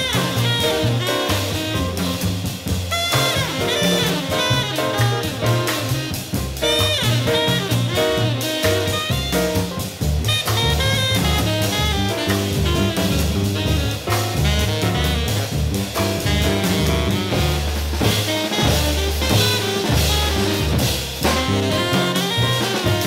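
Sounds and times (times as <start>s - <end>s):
double bass: 0.0s - 23.0s
drum kit: 0.0s - 23.0s
tenor saxophone: 0.0s - 23.0s.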